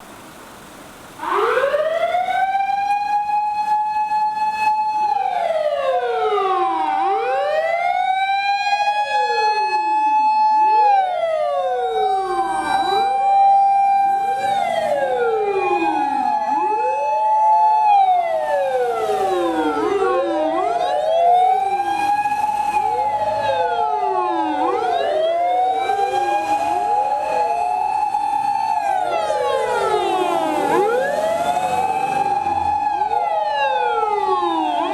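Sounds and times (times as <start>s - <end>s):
fire engine sirens wailing: 0.9s - 34.9s.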